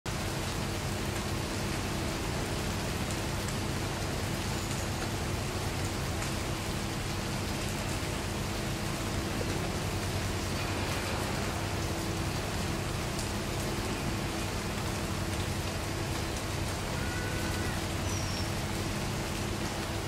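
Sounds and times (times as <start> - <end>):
steady rain falling: 0.1 - 20.0.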